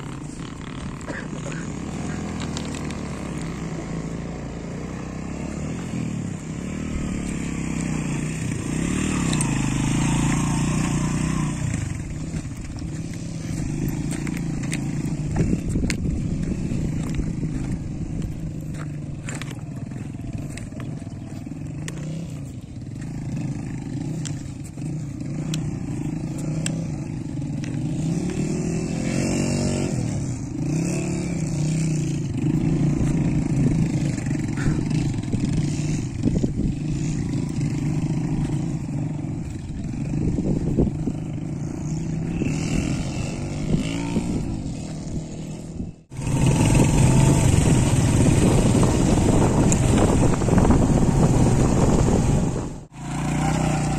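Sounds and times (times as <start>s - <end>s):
vehicle engine running: 0.0s - 53.9s
wind buffeting microphone: 6.0s - 53.9s.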